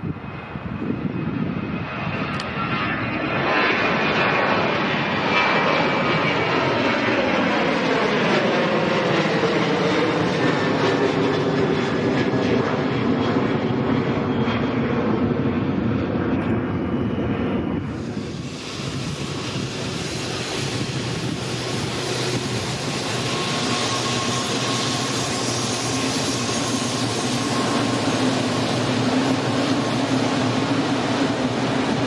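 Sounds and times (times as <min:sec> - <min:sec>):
jet engines at takeoff: 0:00.0 - 0:32.0.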